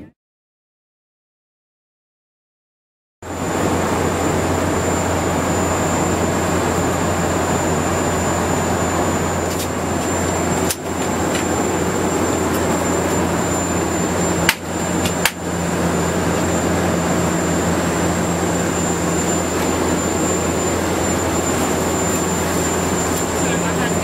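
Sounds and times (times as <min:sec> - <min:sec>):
aircraft cabin drone: 0:03.2 - 0:24.0
high whine: 0:03.2 - 0:24.0.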